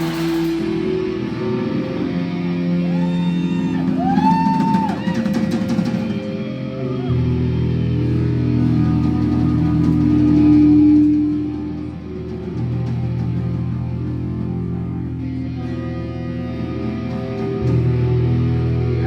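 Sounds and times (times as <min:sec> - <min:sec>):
held electric guitar notes: 0:00.0 - 0:19.0
low bass line: 0:00.0 - 0:19.0.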